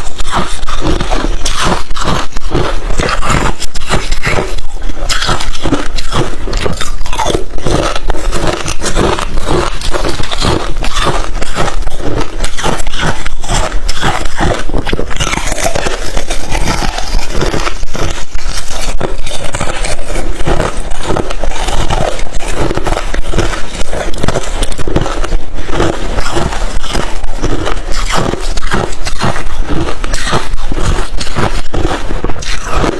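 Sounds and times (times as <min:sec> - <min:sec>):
chewing crushed ice: 0:00.0 - 0:32.9.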